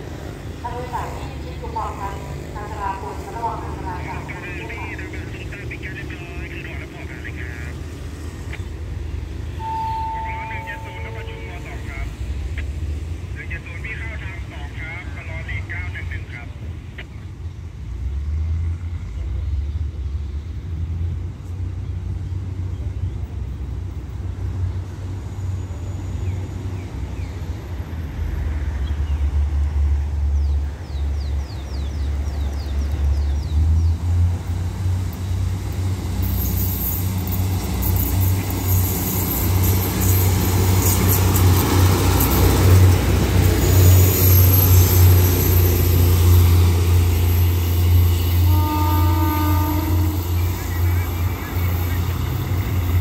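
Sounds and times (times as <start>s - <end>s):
diesel train approaching: 0.0s - 53.0s.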